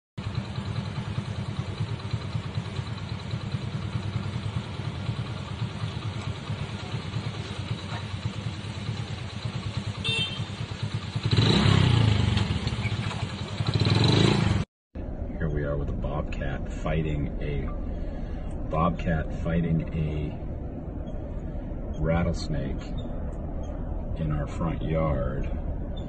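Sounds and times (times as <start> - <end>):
motorcycle engines idling: 0.2 - 26.0.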